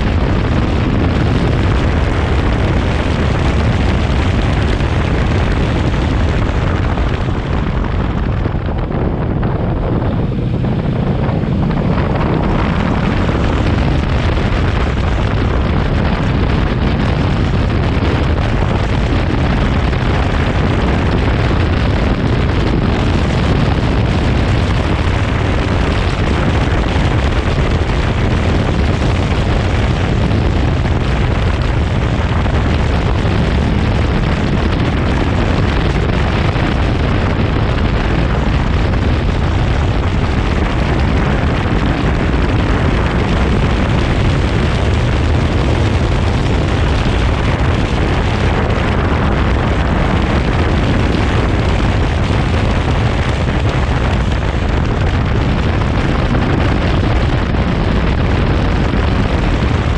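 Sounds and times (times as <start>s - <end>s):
motorcycle engine: 0.0s - 54.4s
wind rumble on microphone: 0.0s - 59.9s.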